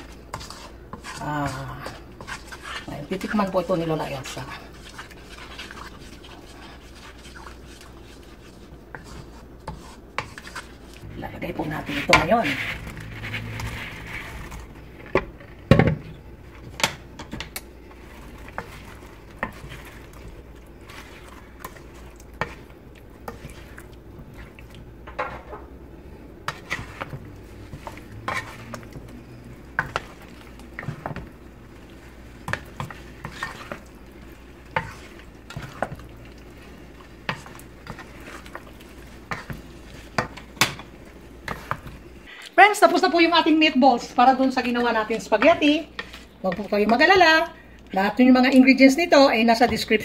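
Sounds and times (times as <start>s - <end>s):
wooden spoon scraping pan: 0.0s - 25.7s, 26.4s - 42.2s, 42.8s - 47.6s.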